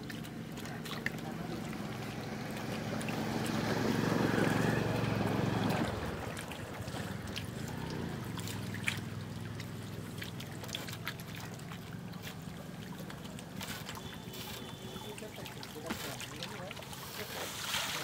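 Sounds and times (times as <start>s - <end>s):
small drips: 0.0s - 18.0s
water splashing: 0.0s - 18.0s.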